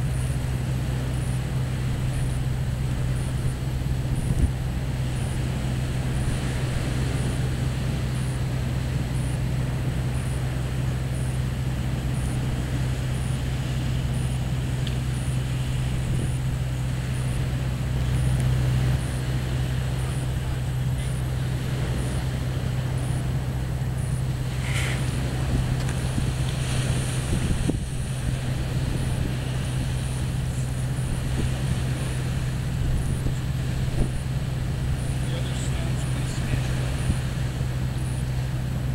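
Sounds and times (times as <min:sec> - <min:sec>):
small waves washing onto sand: 0:00.0 - 0:38.9
wind on microphone: 0:00.0 - 0:38.9.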